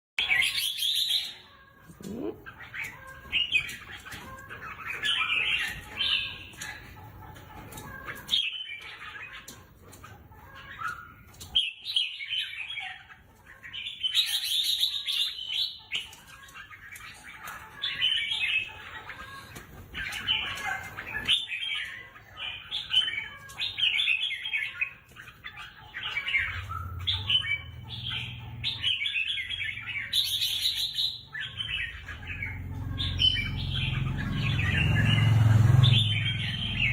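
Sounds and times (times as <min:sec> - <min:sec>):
bird warbling song: 0:00.2 - 0:36.9.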